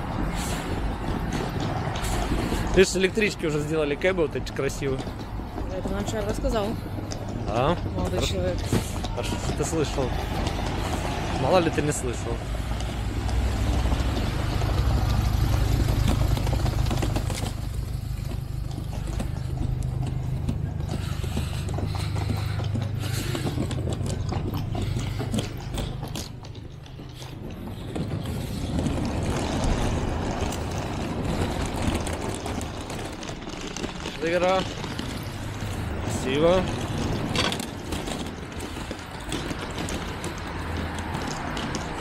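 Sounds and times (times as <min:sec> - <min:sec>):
street traffic: 0:00.0 - 0:42.0
suitcase wheels rattling on paving: 0:00.0 - 0:42.0.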